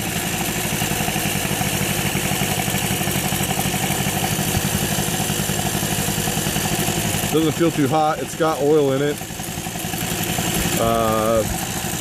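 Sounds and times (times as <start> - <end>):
moped two-stroke engine running: 0.0 - 12.0.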